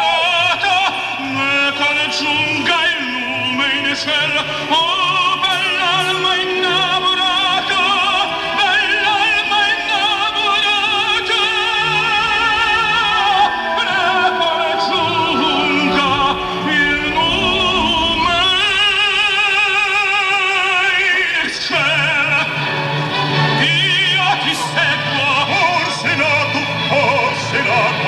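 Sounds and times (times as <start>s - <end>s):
opera singer with vibrato: 0.0s - 28.0s.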